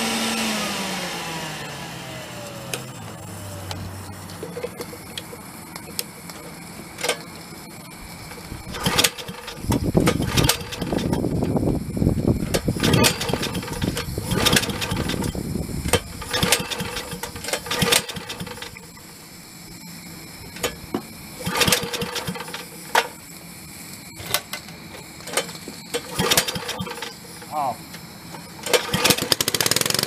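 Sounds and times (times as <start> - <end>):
small engine cranking and sputtering: 0.0 - 23.3, 24.1 - 30.0.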